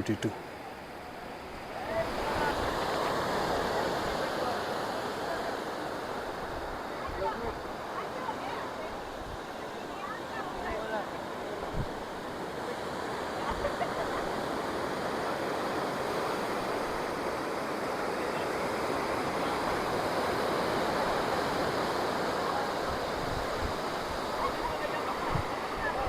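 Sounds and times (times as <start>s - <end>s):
surf breaking on rocky shore: 0.3s - 26.0s.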